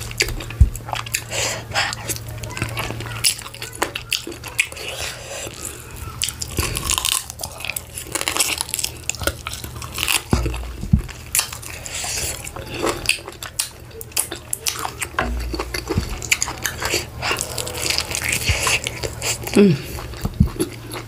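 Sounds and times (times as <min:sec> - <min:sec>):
person chewing meat: 0:00.0 - 0:21.0
teeth and mouth clicks: 0:00.0 - 0:21.0.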